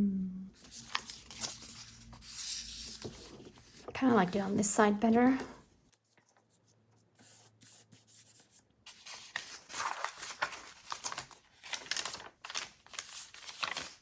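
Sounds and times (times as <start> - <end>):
paper rustling: 0.6 - 4.7, 6.0 - 14.0.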